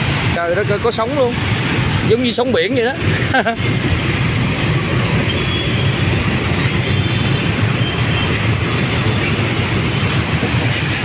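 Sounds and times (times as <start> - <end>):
low rumble of engines: 0.0 - 11.0
water washing around wheels: 0.0 - 11.0.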